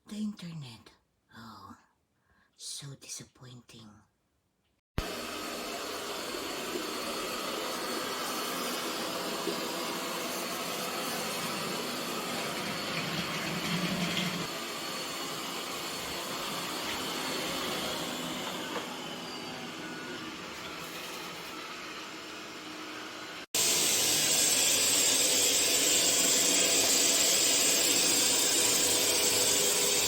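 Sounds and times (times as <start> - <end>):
robot vacuum cleaner whirring: 5.0 - 30.0.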